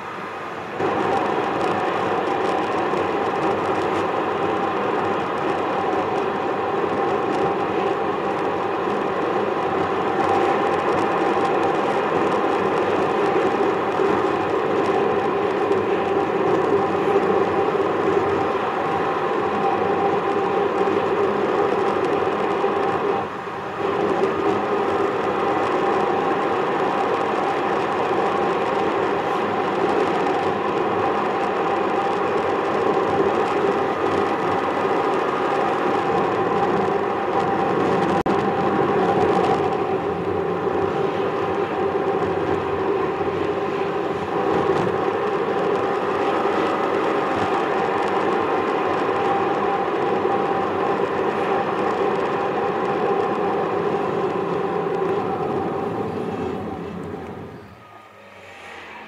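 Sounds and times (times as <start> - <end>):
car road drone inside cabin: 0.0 - 59.0.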